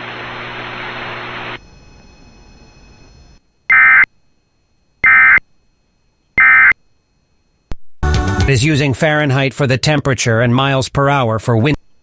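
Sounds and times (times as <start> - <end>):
broadcast hiss and hum: 0.0 - 12.0.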